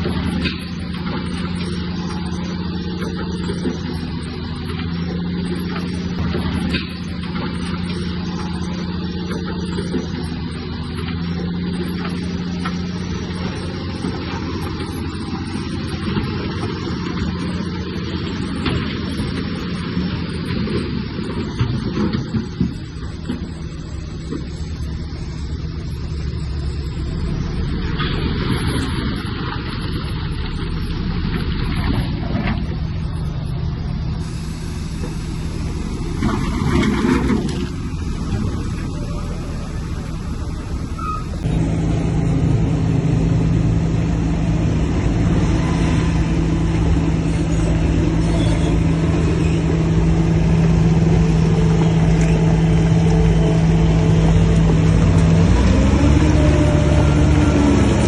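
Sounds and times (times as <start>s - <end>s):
heavy diesel engine running: 0.0s - 58.0s
rumble and scraping: 0.0s - 58.0s.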